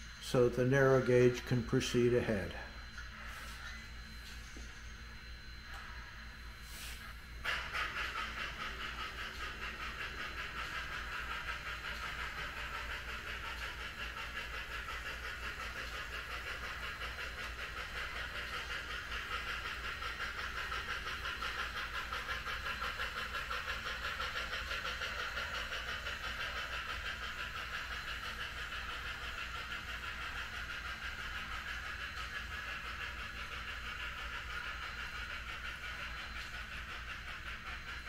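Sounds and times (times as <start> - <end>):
model train running: 0.0 - 38.0.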